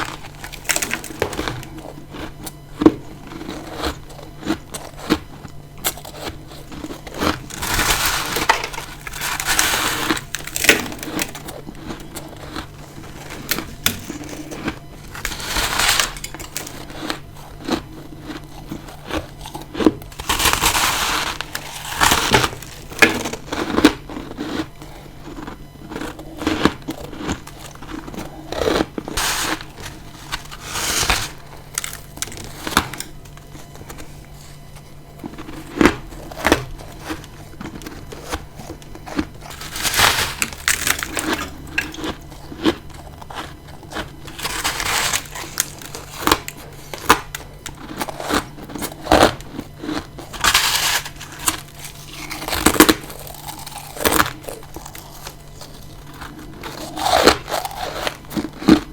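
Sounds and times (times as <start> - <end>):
person crunching ice: 0.0 - 58.9.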